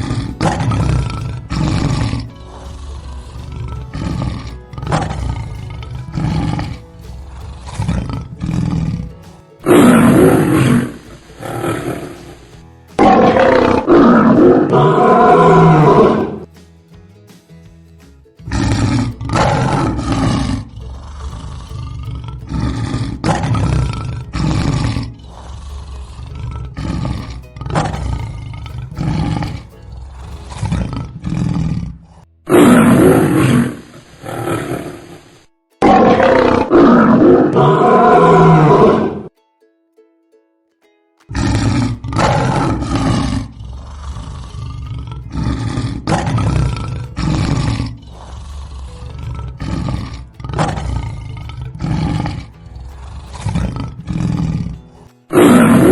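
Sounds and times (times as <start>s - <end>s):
lion roaring: 0.0s - 16.5s, 18.5s - 39.3s, 41.3s - 55.9s.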